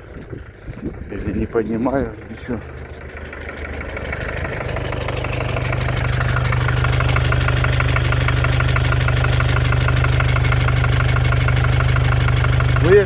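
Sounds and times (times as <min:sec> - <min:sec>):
diesel engine idling: 0:00.0 - 0:13.0
rapid tapping engine knock: 0:00.0 - 0:13.0.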